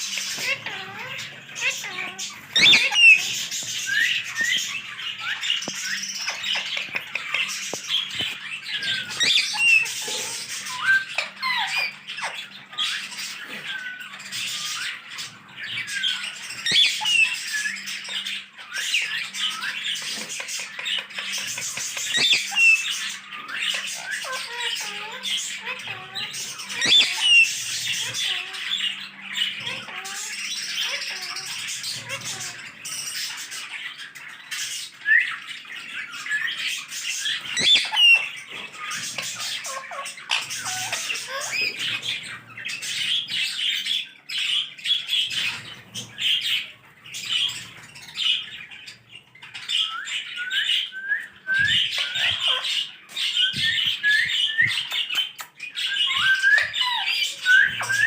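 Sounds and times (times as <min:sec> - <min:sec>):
parrots squawking: 0:00.0 - 0:58.0.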